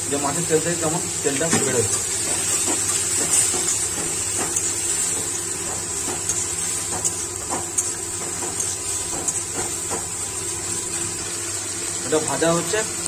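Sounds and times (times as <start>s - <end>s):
fat sizzling in a pan: 0.0s - 13.0s.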